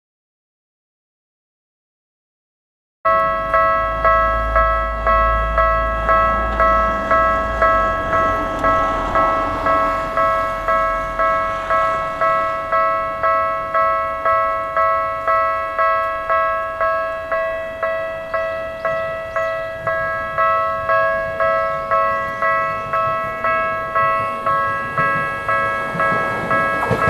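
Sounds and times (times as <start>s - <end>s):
level-crossing bell clanging: 3.1s - 27.0s.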